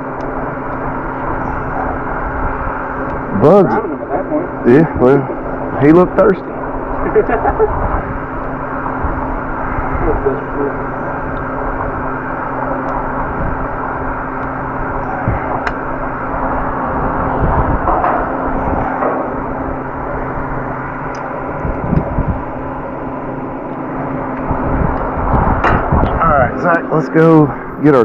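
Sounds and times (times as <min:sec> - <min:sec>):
fan whooshing with motor hum: 0:00.0 - 0:28.0.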